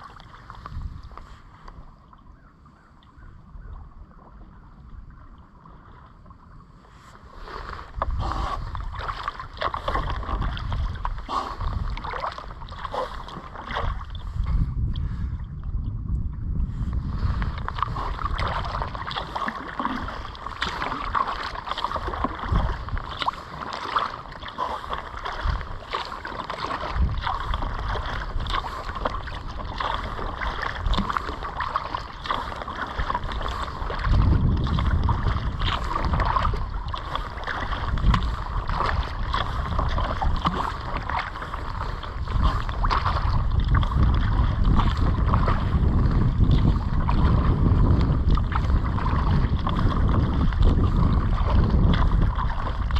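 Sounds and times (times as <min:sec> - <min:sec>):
paddle strokes splashing water: 0:00.0 - 0:52.9
wind rumbling on microphone: 0:00.0 - 0:52.9.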